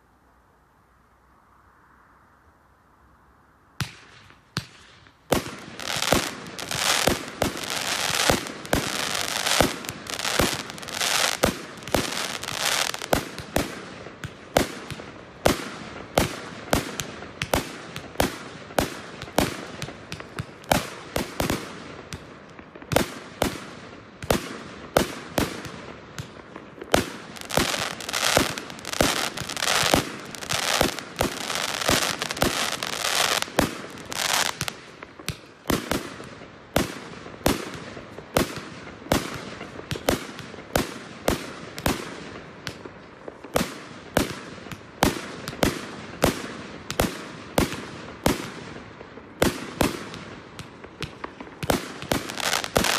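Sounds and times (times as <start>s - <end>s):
fireworks sharp bangs: 3.8s - 52.9s
rumble and crackle of explosions: 3.8s - 52.9s.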